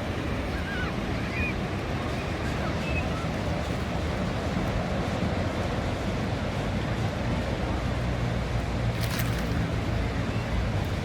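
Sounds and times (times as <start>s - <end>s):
ocean surf on beach: 0.0s - 11.0s
wind rumbling on microphone: 0.0s - 11.0s.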